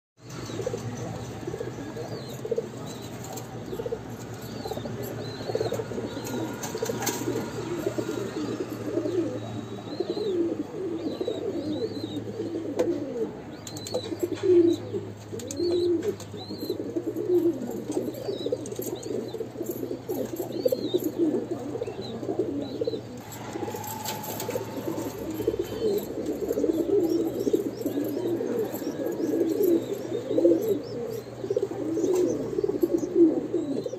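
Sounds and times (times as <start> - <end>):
pigeons cooing: 0.2 - 33.9.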